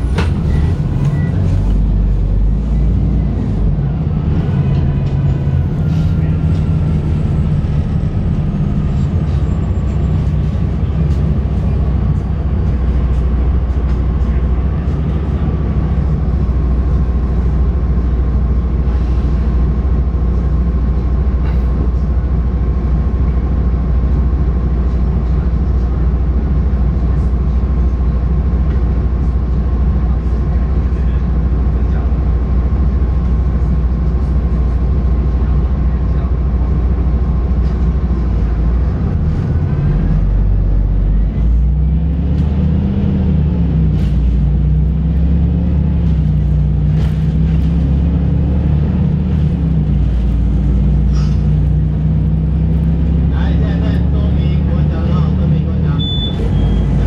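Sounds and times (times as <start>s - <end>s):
bus engine idling rumble: 0.0s - 57.0s.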